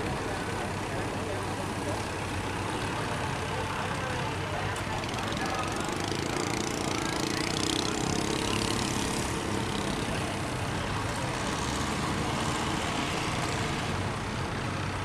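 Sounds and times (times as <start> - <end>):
boat engines running: 0.0 - 15.0.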